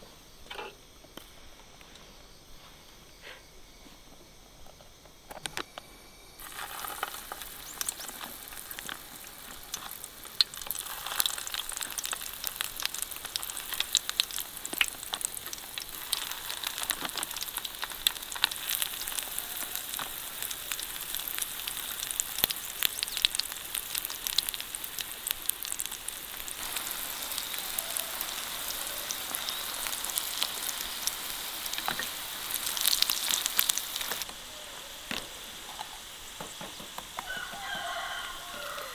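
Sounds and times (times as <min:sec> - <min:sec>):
food sizzling in a pan: 0:06.4 - 0:38.9.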